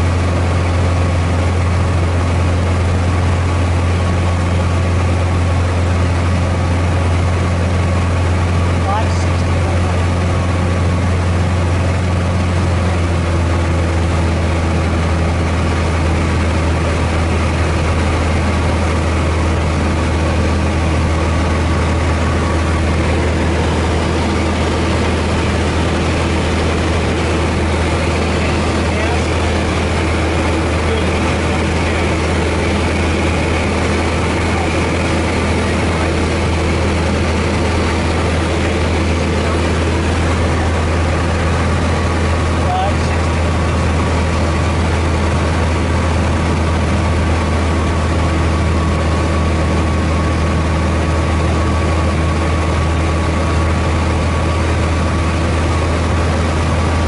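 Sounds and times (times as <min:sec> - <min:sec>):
airplane engine and propeller droning: 0:00.0 - 0:57.0.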